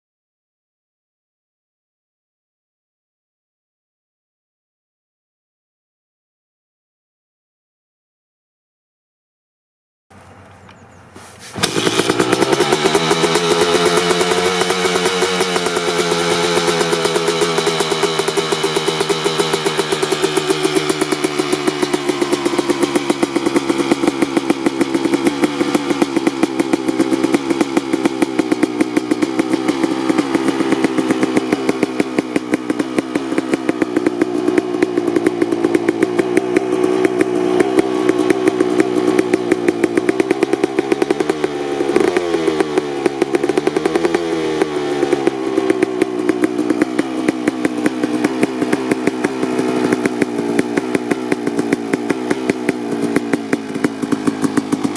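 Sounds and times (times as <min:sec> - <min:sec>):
two-stroke motorcycle engine revving: 0:10.2 - 0:54.9.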